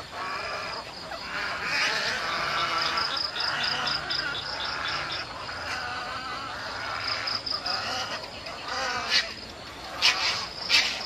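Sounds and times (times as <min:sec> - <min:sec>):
cricket chirping: 0:00.0 - 0:11.0
egrets calling: 0:00.0 - 0:11.0.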